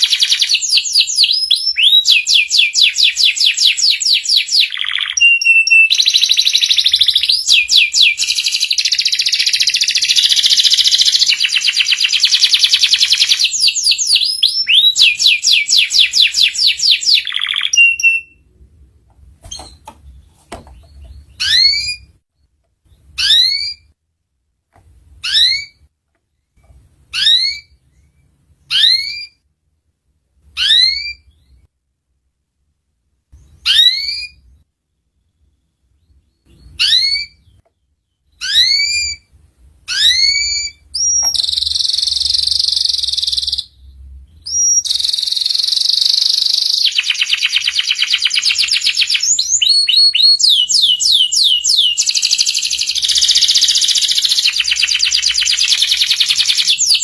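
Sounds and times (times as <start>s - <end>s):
canary chirping and singing: 0.0s - 18.4s, 19.4s - 22.2s, 22.8s - 23.9s, 25.2s - 25.9s, 27.1s - 29.4s, 30.5s - 31.6s, 33.4s - 34.6s, 35.3s - 57.0s.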